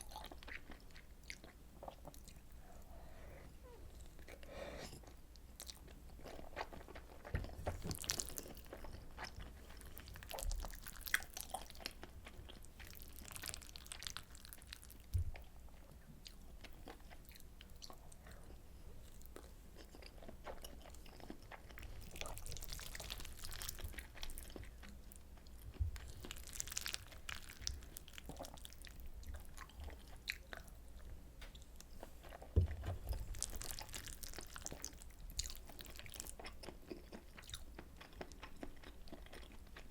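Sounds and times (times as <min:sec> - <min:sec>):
person chewing: 0:00.0 - 0:39.9.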